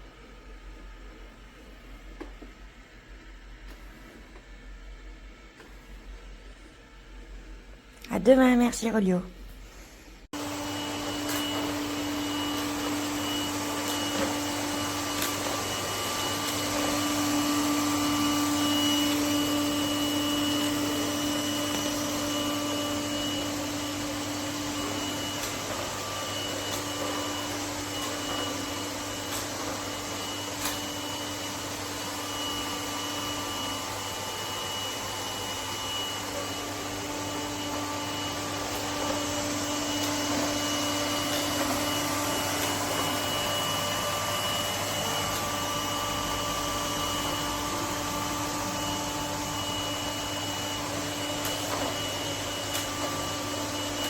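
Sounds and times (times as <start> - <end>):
robot vacuum running: 10.4 - 54.0.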